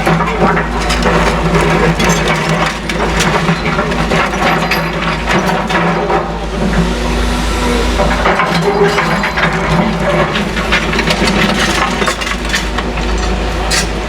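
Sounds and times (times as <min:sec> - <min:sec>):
rubble crunching and clattering: 0:00.0 - 0:06.9, 0:08.0 - 0:14.0
excavator diesel engine running: 0:00.0 - 0:14.0.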